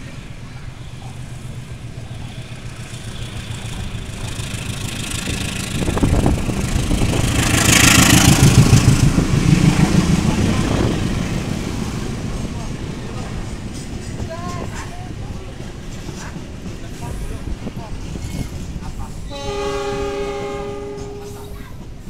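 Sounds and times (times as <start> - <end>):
diesel locomotive engine rumble: 0.0 - 22.0
freight wagons rolling over rails: 0.8 - 19.1.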